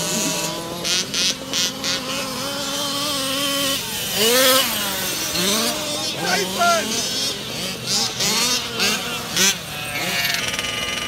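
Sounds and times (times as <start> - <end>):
small two-stroke engines revving: 0.0 - 11.0.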